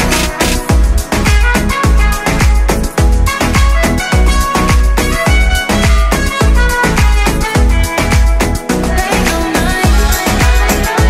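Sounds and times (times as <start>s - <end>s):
electronic dance music: 0.0s - 11.0s
deep kick drum: 0.6s - 8.5s, 9.8s - 11.0s.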